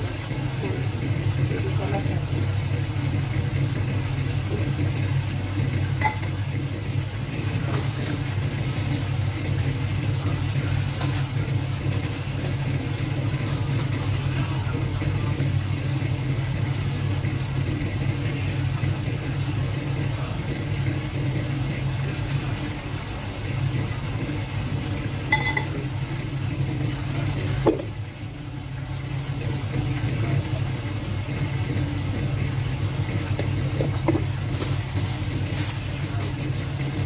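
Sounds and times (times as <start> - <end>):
machine humming: 0.0 - 37.0.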